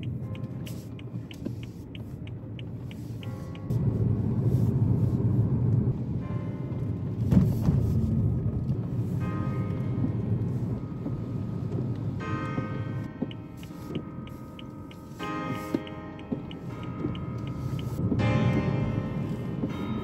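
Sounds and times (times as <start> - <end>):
soft background music: 0.0 - 3.9, 6.2 - 20.0
car road rumble: 0.0 - 20.0.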